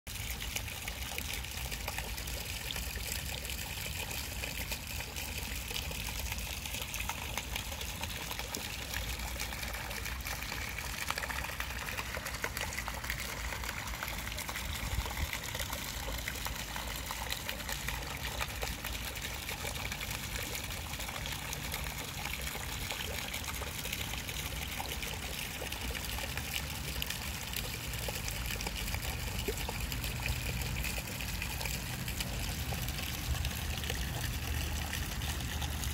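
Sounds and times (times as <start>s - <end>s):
fountain water splashing: 0.1s - 35.9s.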